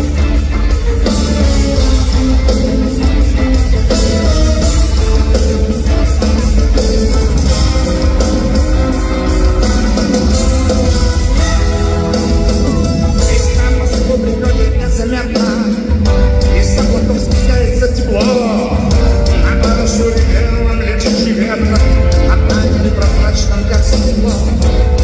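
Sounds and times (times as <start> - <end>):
electric guitar: 0.0 - 25.0
live rock band playing: 0.0 - 25.0.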